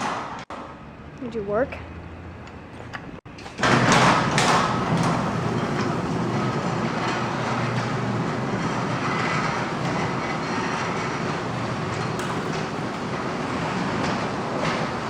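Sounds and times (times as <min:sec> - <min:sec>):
garage door opener running: 0:01.8 - 0:15.0.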